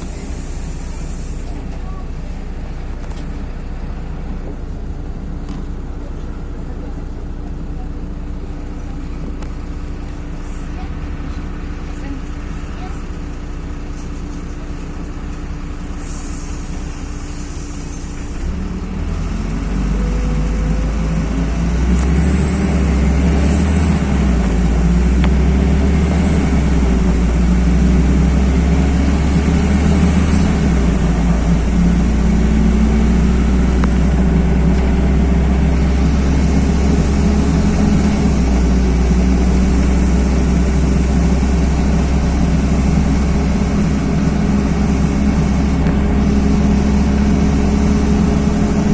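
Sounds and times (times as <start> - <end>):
bus engine rumble: 0.0 - 48.9.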